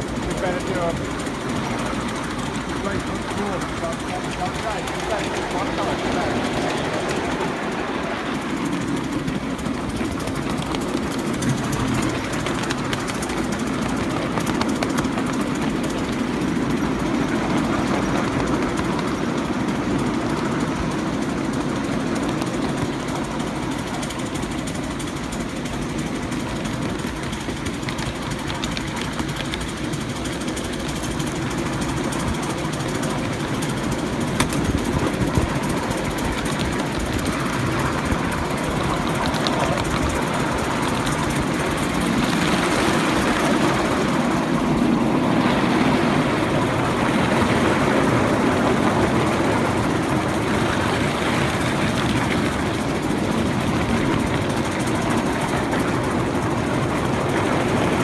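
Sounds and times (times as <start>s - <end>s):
miniature train rumbling: 0.0s - 58.0s
wheels rattling: 0.0s - 58.0s.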